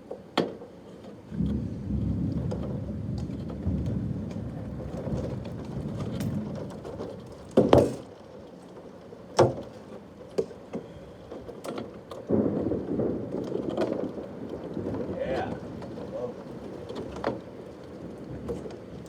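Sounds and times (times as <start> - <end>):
steady rain: 0.0 - 19.0
light knocks and clatters: 2.3 - 19.0.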